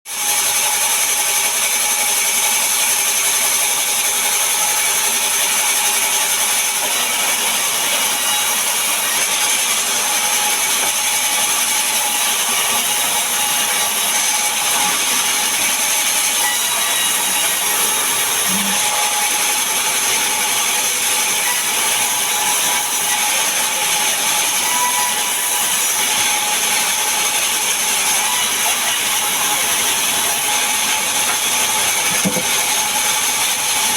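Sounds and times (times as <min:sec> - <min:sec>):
sawmill saw whining: 0:00.1 - 0:33.9.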